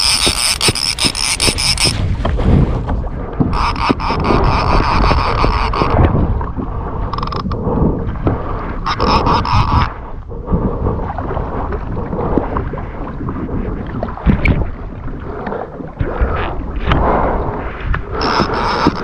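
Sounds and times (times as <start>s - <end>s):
water splashing against a kayak hull: 0.0s - 19.0s
wind buffeting the microphone: 0.0s - 19.0s.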